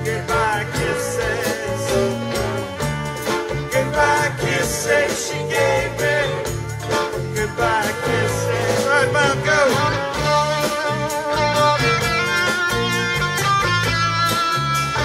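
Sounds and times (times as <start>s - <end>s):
horn section: 0.0s - 13.2s
bass: 0.0s - 15.0s
drums: 0.0s - 15.0s
electric guitars: 0.0s - 15.0s.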